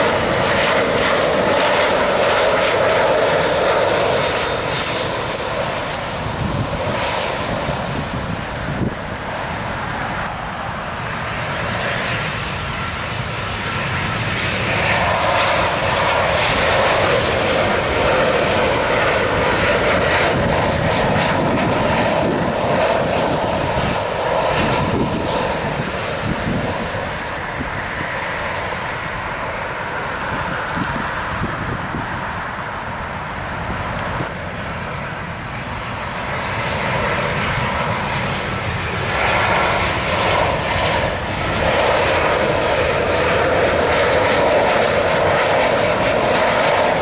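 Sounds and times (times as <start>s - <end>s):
airliner engines roaring: 0.0s - 47.0s.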